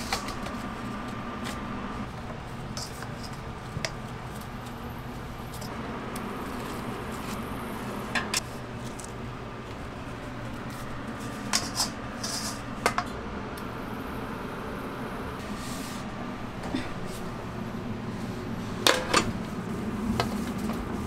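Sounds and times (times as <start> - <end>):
kitchen hum: 0.0 - 21.0.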